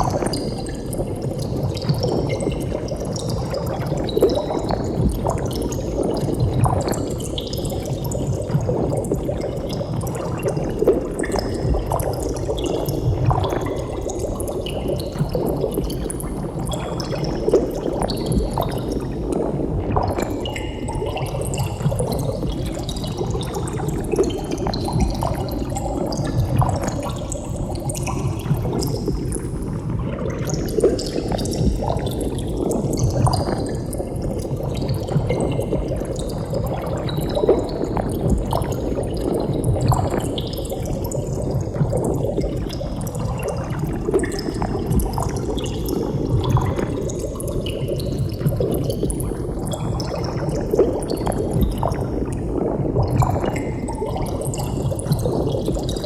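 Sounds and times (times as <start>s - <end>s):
water bubbling: 0.0s - 56.0s.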